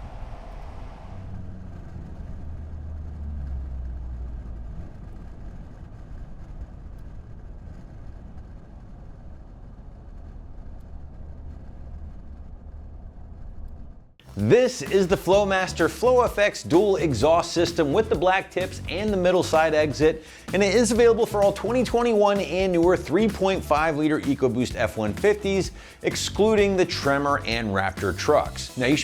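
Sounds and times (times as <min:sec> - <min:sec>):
deep exhaust rumble: 0:00.0 - 0:29.0.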